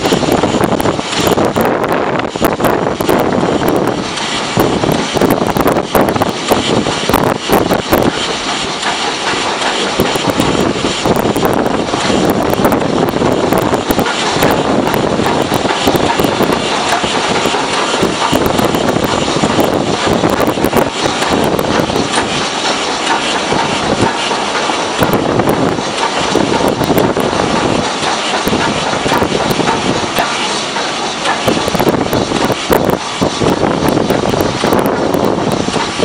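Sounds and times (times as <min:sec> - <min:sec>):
train clatter: 0:00.0 - 0:36.0
train rumbling on track: 0:00.0 - 0:36.0
wind buffeting microphone: 0:00.0 - 0:36.0.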